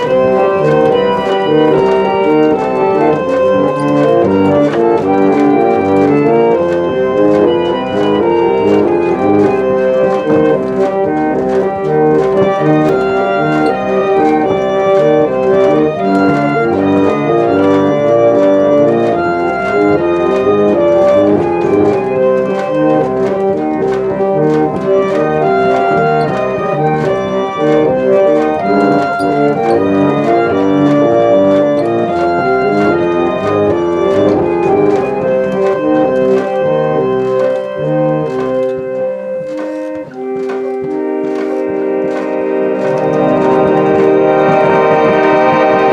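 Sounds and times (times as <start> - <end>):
pump organ playing chords: 0.0 - 45.9.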